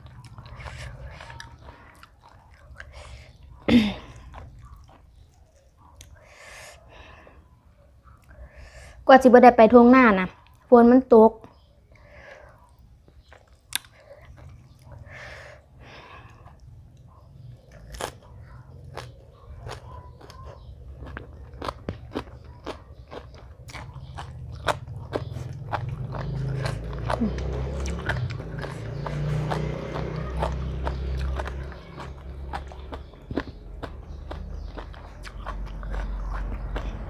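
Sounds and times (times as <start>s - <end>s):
person chewing crunchy food: 0.0s - 7.2s, 11.9s - 37.0s.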